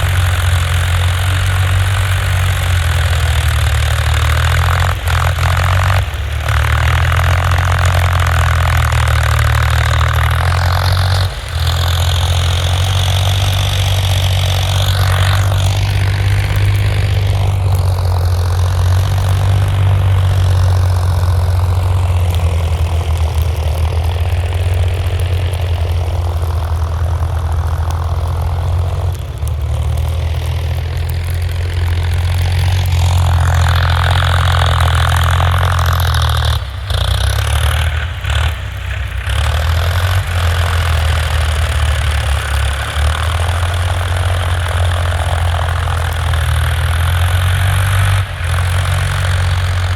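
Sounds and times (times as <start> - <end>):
diesel tractor engine droning: 0.0 - 49.9
harsh mid-range noise: 0.0 - 49.9.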